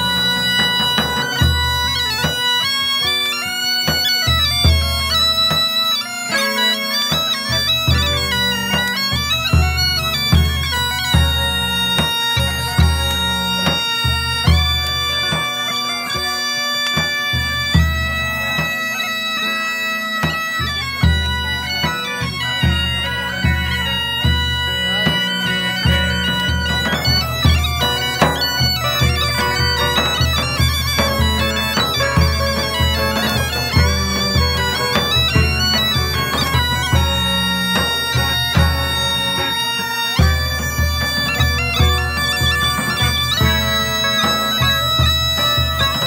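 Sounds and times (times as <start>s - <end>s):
bagpipes playing a melody: 0.0s - 46.0s
frame drums beating: 0.0s - 46.0s.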